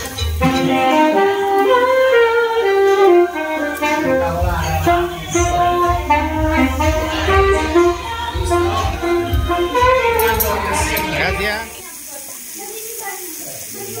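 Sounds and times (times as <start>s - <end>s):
melody of held notes: 0.0s - 11.8s.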